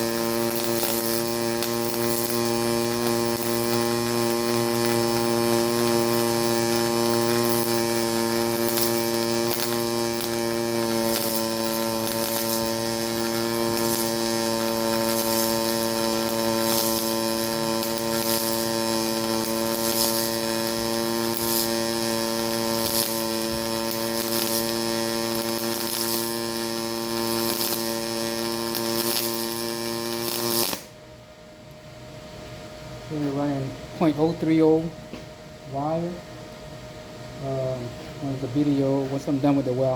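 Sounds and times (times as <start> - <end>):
welder arc pulsing buzz: 0.0 - 39.9.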